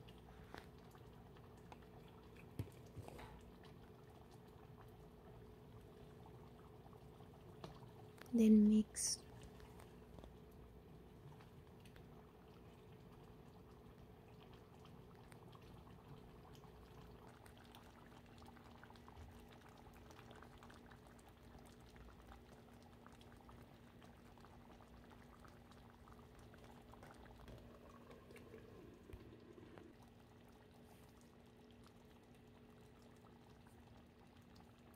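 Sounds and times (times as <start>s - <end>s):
stew bubbling in a pot: 0.0s - 34.9s.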